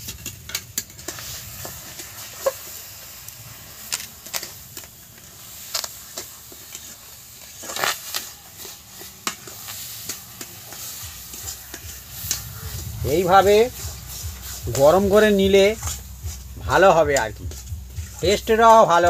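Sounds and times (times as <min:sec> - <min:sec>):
faint steady hiss: 0:00.0 - 0:19.0
metal spatula scraping a wok: 0:00.0 - 0:19.0.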